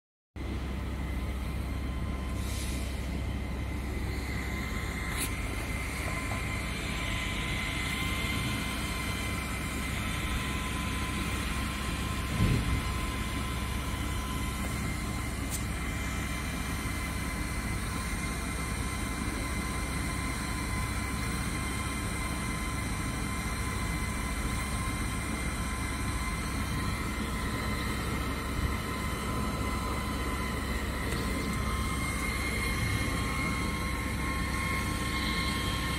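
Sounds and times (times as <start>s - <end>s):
cooling fan whirring: 0.4s - 35.9s
drive motors whining: 1.0s - 21.8s, 24.4s - 35.9s.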